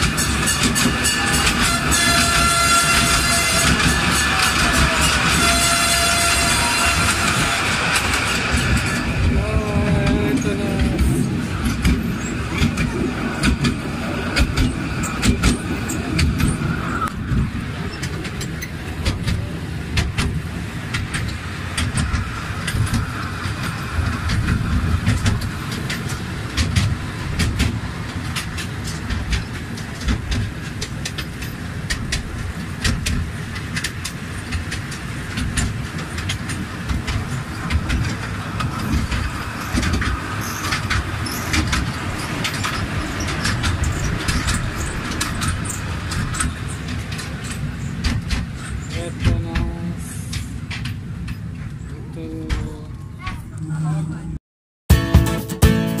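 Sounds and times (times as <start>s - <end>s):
train low rumble: 0.0s - 55.1s.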